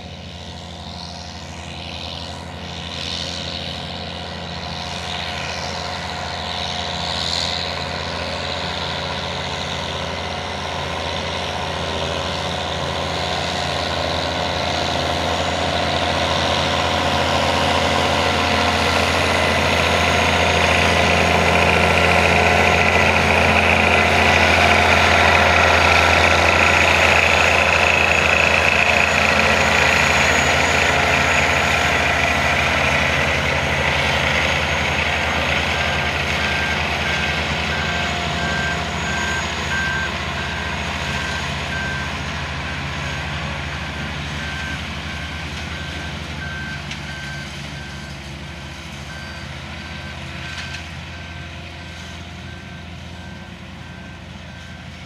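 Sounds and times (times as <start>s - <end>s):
harvester diesel engine humming: 0.0s - 55.0s.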